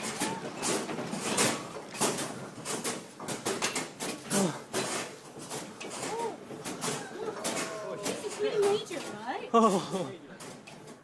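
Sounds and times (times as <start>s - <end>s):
sharp knocks and clatters: 0.0s - 9.3s
office furniture rattling: 0.0s - 9.4s.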